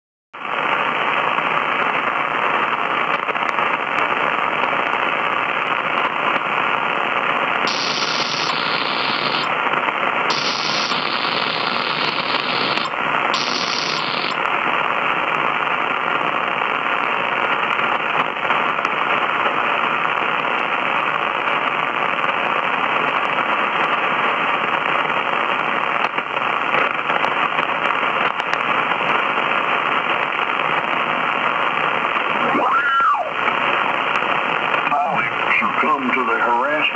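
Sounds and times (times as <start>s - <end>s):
radio static hiss: 0.4s - 36.9s.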